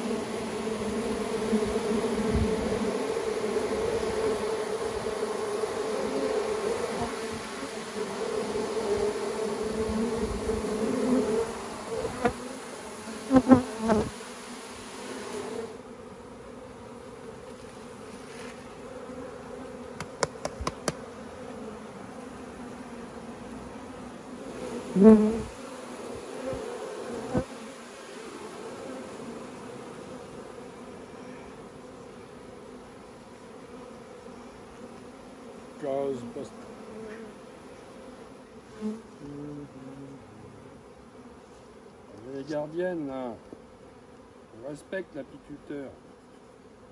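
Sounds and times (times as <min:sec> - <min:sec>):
honeybees buzzing: 0:00.0 - 0:46.9.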